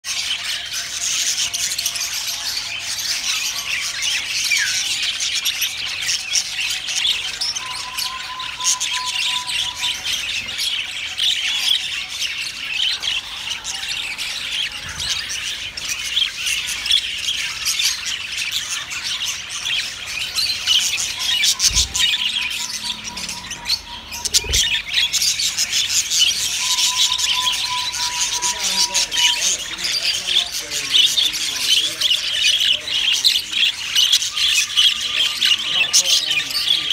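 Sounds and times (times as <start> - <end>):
budgerigars chattering and chirping: 0.1 - 36.9.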